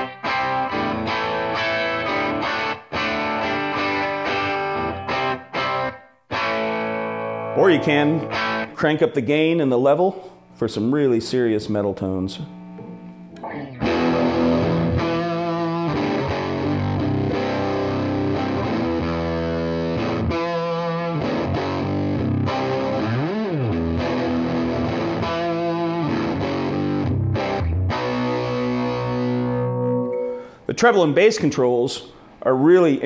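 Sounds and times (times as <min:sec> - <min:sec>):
distorted electric guitar riffs: 0:00.0 - 0:30.6.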